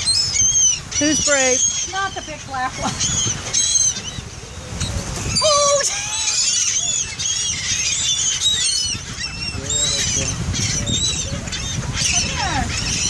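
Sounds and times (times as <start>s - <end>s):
seagulls calling: 0.0s - 13.0s.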